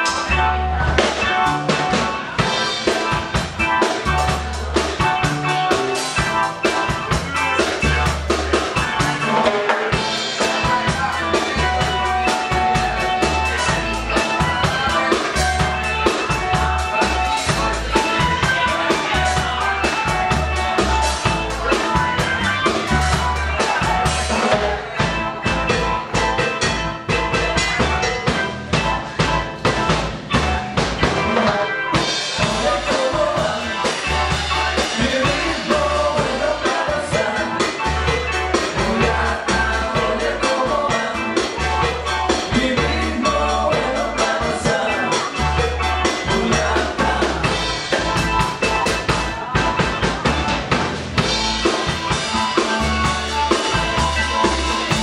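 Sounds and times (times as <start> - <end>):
drum kit beat: 0.0 - 55.0
pulsing bass line: 0.0 - 55.0.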